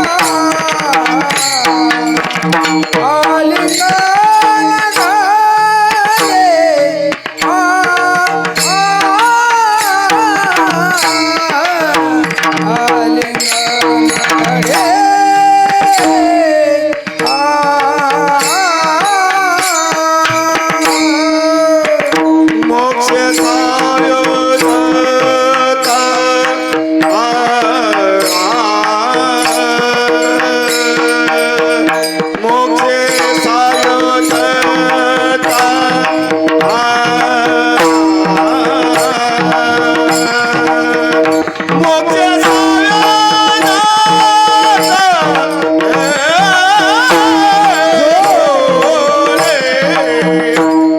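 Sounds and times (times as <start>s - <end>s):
hand drum rhythm: 0.0s - 50.9s
man singing: 0.0s - 50.9s.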